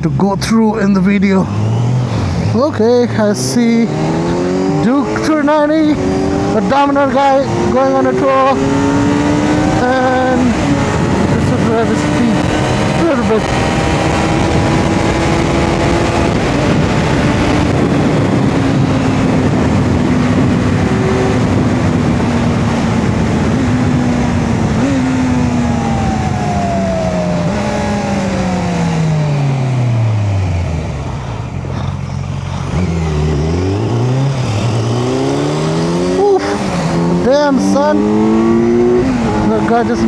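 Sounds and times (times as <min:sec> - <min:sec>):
motorcycle engine revving: 0:00.0 - 0:40.0
wind rush: 0:01.5 - 0:40.0.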